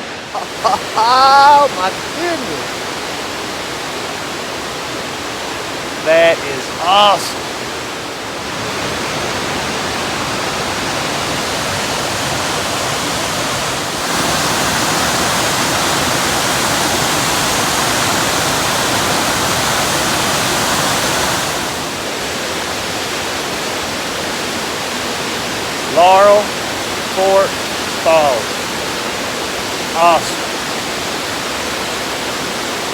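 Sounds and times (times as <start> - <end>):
waterfall crashing onto rocks: 0.0 - 32.9.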